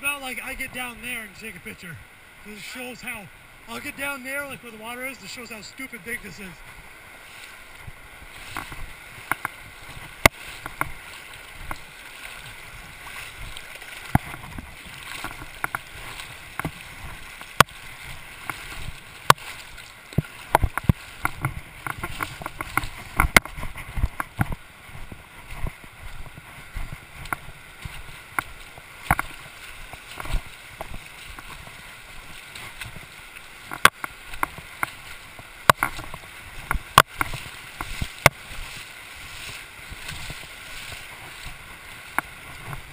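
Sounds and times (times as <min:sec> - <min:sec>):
river rushing over stones: 0:00.0 - 0:42.9.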